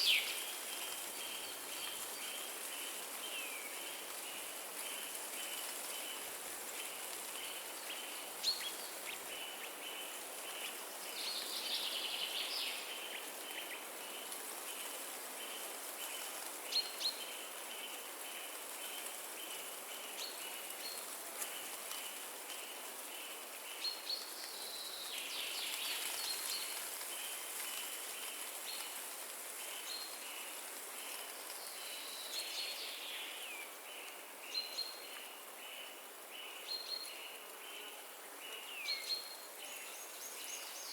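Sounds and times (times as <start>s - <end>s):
wind through trees: 0.0s - 40.9s.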